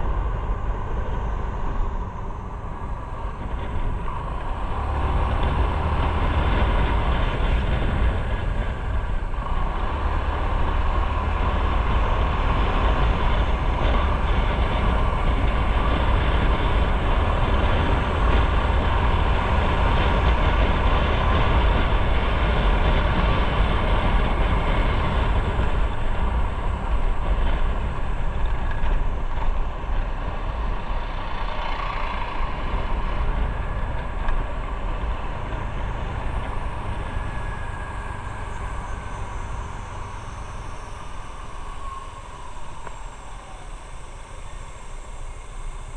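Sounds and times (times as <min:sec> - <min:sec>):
motorcycle engine: 0:00.0 - 0:45.9
wind noise on microphone: 0:00.0 - 0:45.9.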